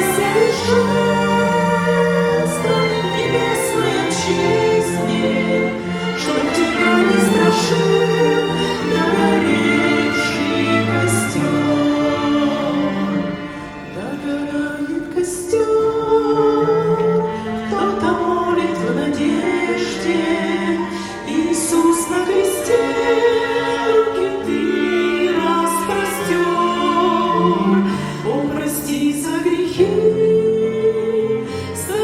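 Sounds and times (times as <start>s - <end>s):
choir singing slow song: 0.0s - 32.0s.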